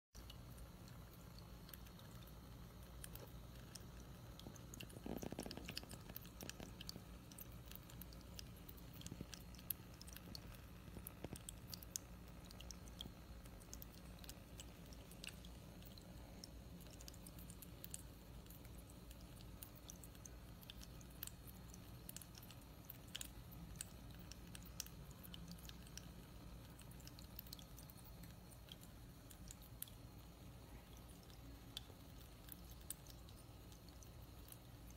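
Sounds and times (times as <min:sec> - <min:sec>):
fountain water trickling and dripping: 0:00.2 - 0:34.9
low steady hum: 0:00.2 - 0:34.9.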